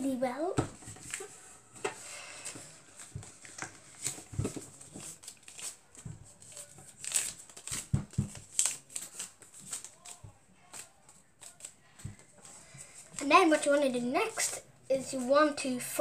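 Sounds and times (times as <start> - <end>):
paper rustling and crinkling: 0.7 - 16.0.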